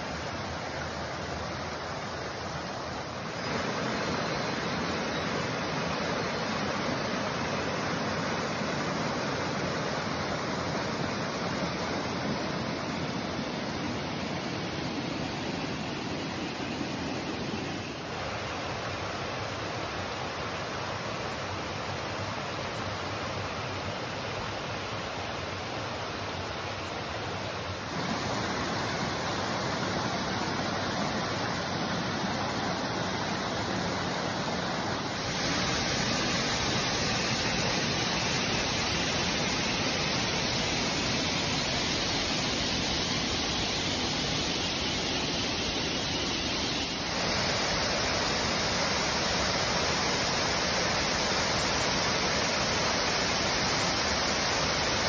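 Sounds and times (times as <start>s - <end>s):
waterfall rushing: 0.0s - 23.5s, 24.3s - 55.0s.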